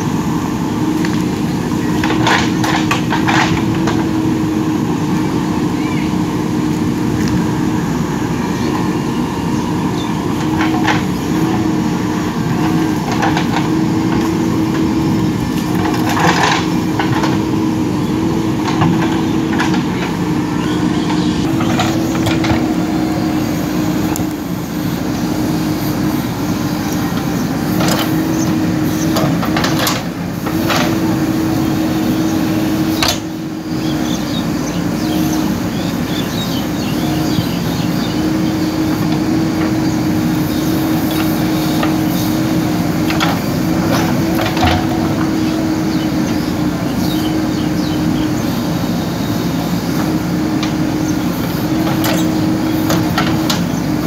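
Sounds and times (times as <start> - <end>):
diesel engine under hydraulic load: 0.0 - 54.0.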